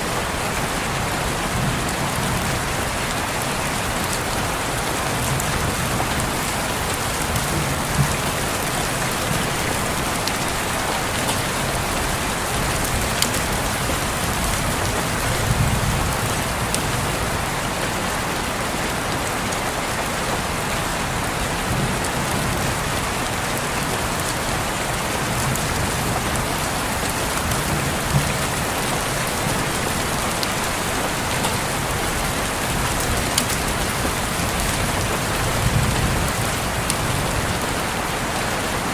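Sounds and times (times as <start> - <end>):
rain on a window: 0.0 - 38.9.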